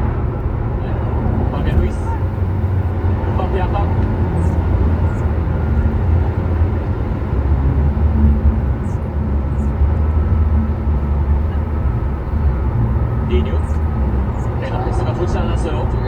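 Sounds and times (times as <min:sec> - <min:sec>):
road and engine rumble in car cabin: 0:00.0 - 0:16.0.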